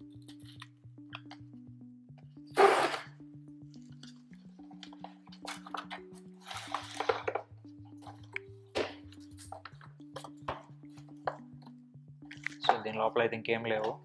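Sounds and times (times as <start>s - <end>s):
background music with steady beat: 0.0s - 14.0s.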